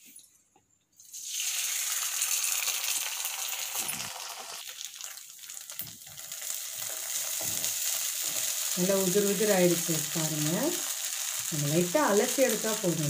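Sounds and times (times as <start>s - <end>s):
rice sizzling in hot oil: 1.0s - 13.0s.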